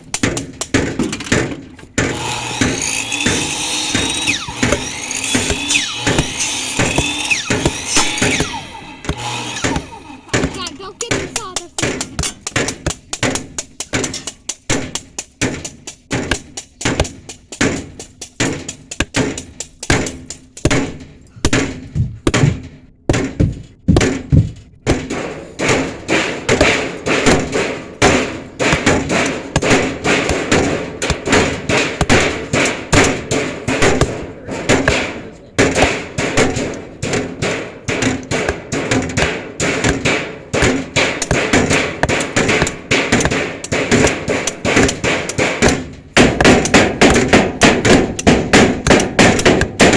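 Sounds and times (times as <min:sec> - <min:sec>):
hammers knocking: 0:00.0 - 0:49.9.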